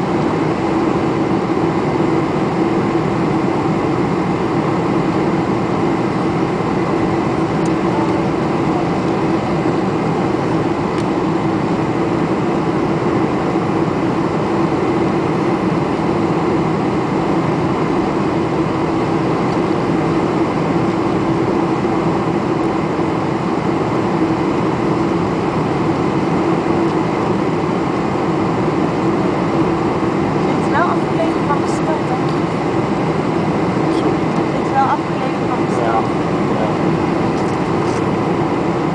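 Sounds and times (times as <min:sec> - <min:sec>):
constant low hum: 0:00.0 - 0:38.9
rush of engines and air: 0:00.0 - 0:38.9.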